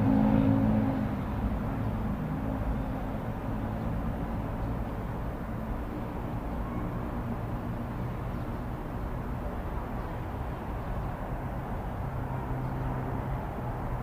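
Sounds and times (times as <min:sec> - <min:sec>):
faint engine hums: 0:00.0 - 0:14.0
road traffic rumble: 0:00.0 - 0:14.0.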